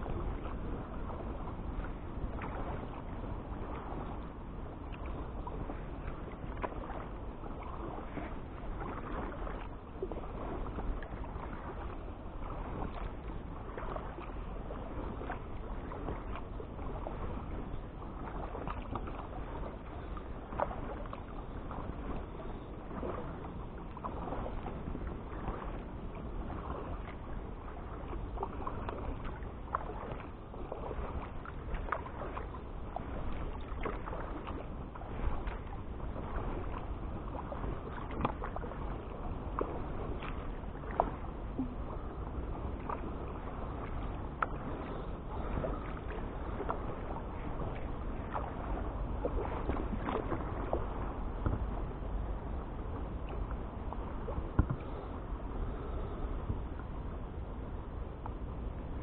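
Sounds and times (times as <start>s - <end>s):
low steady rumble: 0.0s - 59.0s
paddle splashing in water: 0.0s - 59.0s.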